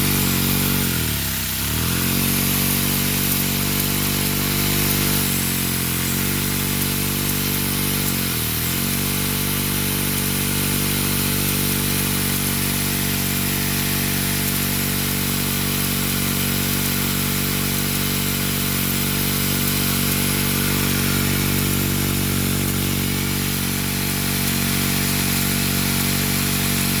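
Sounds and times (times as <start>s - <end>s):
small engine mechanical buzz: 0.0s - 27.0s.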